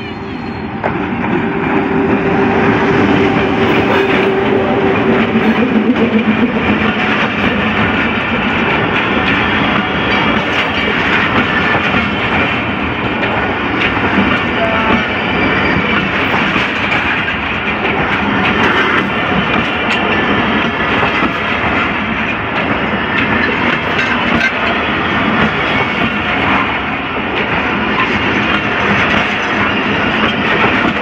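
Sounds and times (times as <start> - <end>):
diesel locomotive engine hum: 0.0 - 31.0
train coaches rumbling past: 0.0 - 31.0
train wheels clacking: 0.0 - 31.0.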